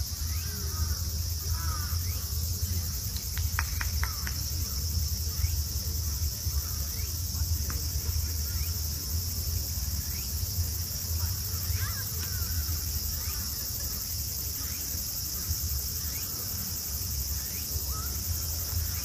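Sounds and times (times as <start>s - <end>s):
high-pitched insect chorus: 0.0s - 19.0s
short insect chirps: 0.0s - 19.0s.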